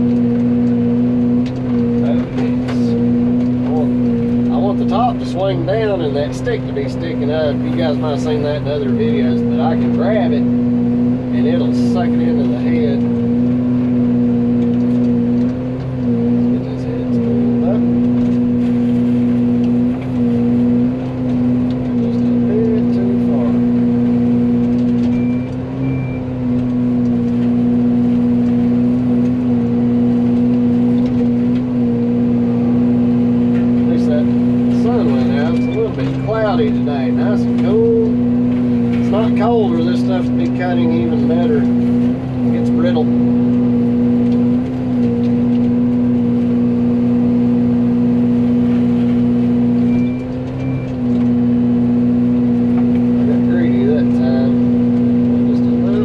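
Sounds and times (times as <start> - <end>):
excavator engine: 0.0 - 56.0
forestry mulcher high hum: 0.0 - 56.0.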